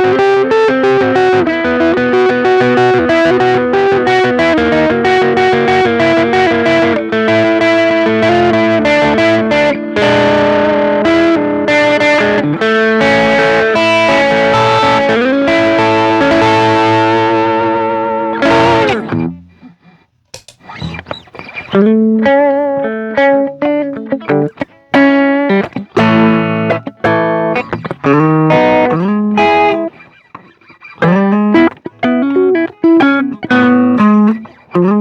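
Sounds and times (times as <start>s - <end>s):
distorted electric guitar lead: 0.0s - 19.4s, 20.4s - 30.1s, 31.0s - 35.0s.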